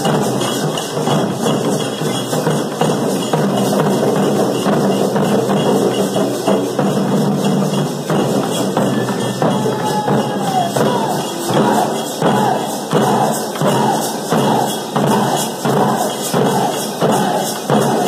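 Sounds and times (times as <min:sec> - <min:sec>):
drummers beating drums: 0:00.0 - 0:18.0.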